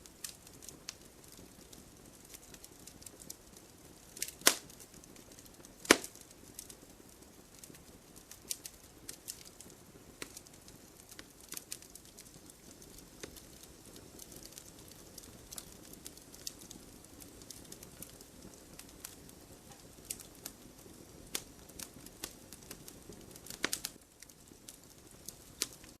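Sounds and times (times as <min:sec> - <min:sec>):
wood bonfire crackling: 0:00.0 - 0:26.0.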